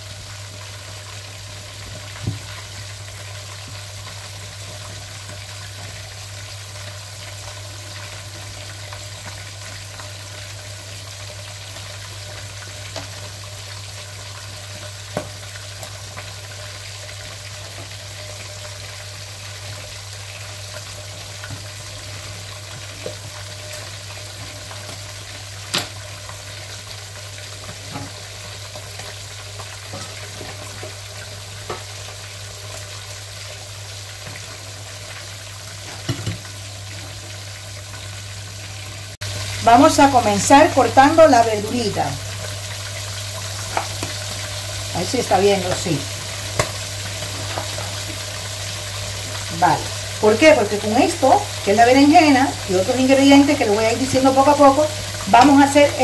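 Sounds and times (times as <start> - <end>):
fish sizzling in a pan: 0.0 - 56.0.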